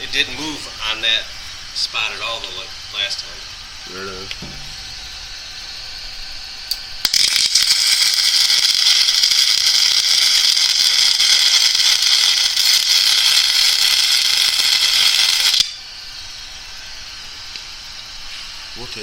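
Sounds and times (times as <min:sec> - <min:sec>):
welding arc crackling: 0:00.0 - 0:16.4.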